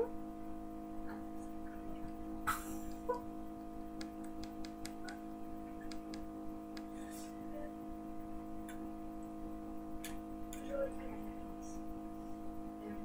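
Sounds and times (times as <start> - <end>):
low hum of held tones: 0.0 - 13.0.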